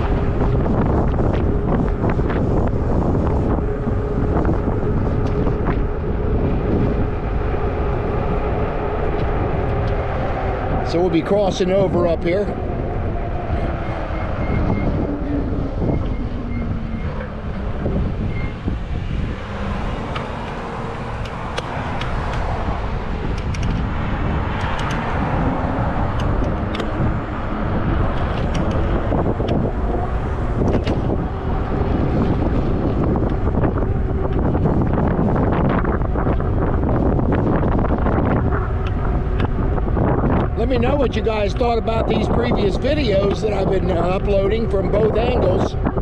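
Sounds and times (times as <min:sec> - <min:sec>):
motor traffic: 0:00.0 - 0:46.0
rumbling road and tyre noise: 0:00.0 - 0:46.0
wind buffeting microphone: 0:00.0 - 0:46.0.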